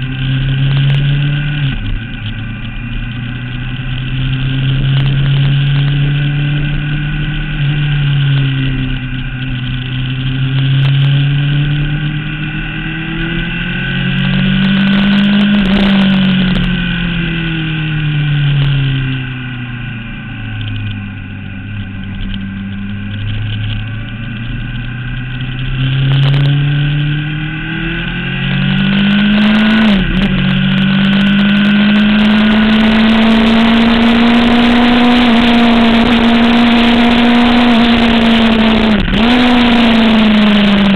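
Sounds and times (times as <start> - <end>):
race car engine revving: 0.0 - 40.9
wind and road noise: 0.0 - 40.9.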